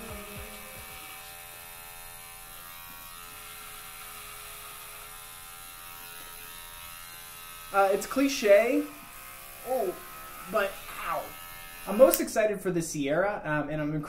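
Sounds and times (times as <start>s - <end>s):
electric hair clippers buzzing: 0.0s - 12.5s.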